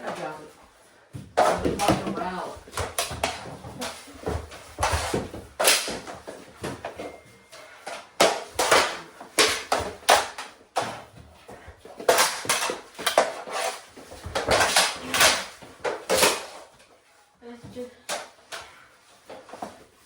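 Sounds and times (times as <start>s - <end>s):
plastic hockey sticks clacking: 1.2s - 17.0s, 18.0s - 19.9s.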